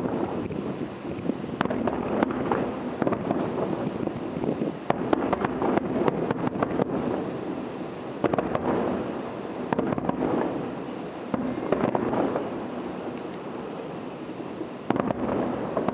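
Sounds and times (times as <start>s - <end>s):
fireworks bangs and crackles: 0.0s - 15.9s.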